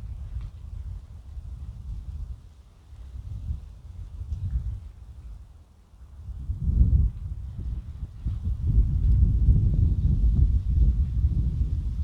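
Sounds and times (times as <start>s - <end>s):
wind buffeting microphone: 0.0s - 5.5s, 6.1s - 12.0s.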